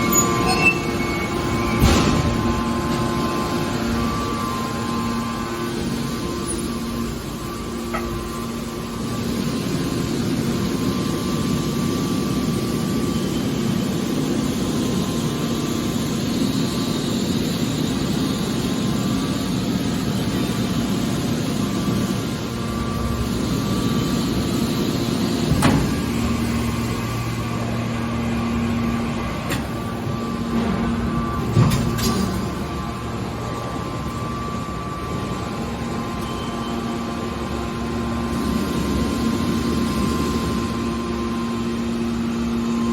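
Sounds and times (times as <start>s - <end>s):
baler press machine hum: 0.0s - 42.9s.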